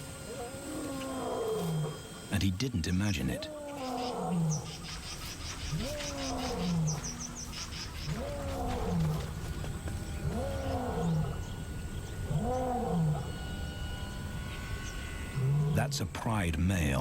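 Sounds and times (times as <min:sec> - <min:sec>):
lion roaring: 0:00.0 - 0:02.4, 0:03.3 - 0:14.4, 0:15.2 - 0:16.2.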